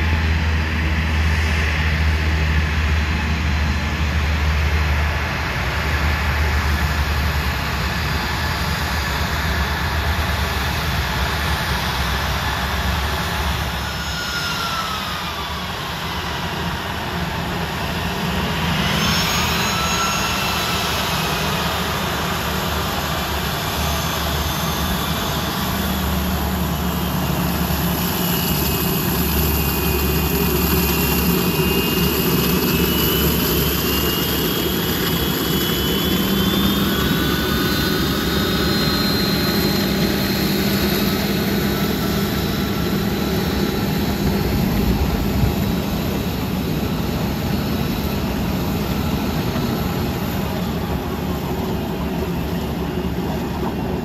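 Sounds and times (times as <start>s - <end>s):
high turbine whine: 0.0s - 54.0s
jet engine low rumble: 0.0s - 54.0s.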